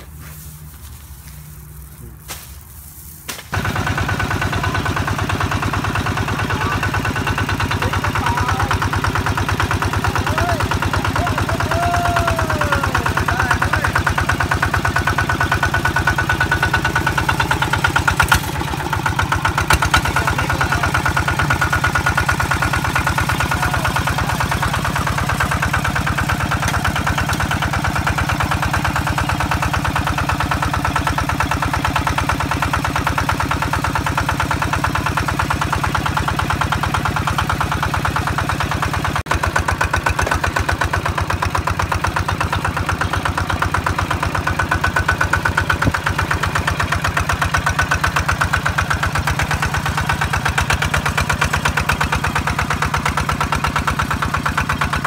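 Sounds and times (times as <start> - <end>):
harvester engine running: 0.0 - 55.0.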